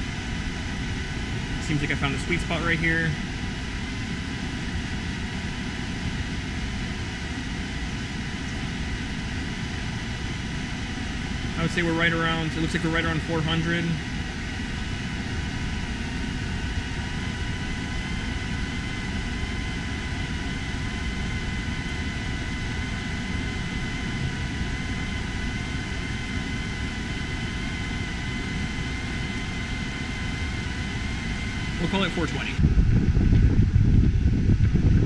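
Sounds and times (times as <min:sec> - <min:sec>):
air conditioner blower rushing air: 0:00.0 - 0:35.0
faint steady whine: 0:00.0 - 0:35.0.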